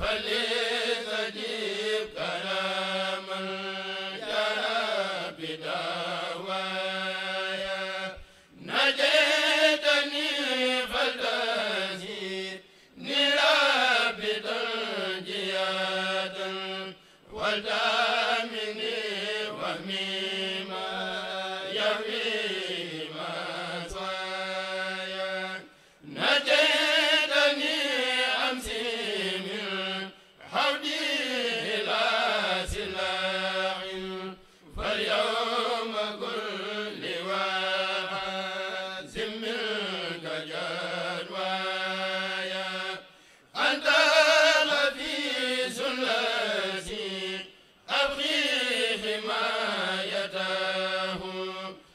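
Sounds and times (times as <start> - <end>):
men chanting through microphones: 0.0 - 51.9.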